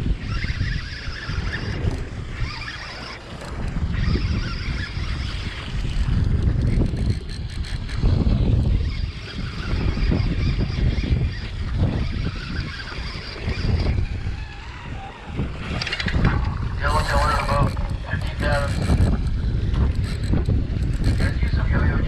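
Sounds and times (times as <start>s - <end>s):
sea water rushing along boat: 0.0s - 22.0s
wind buffeting microphone: 0.0s - 22.0s.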